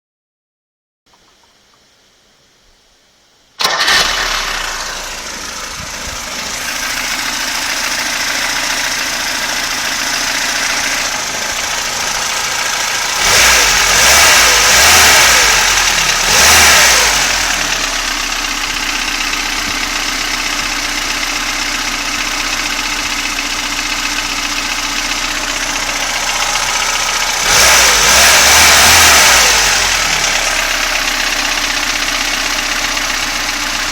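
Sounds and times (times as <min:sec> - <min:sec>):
car engine starting and idling: 0:03.5 - 0:33.9
engine revving: 0:03.6 - 0:33.9.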